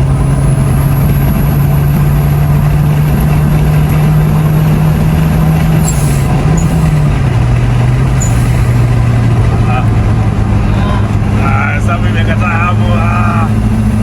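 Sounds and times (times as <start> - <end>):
car engine at high revs: 0.0 - 14.0
road and wind noise: 0.0 - 14.0.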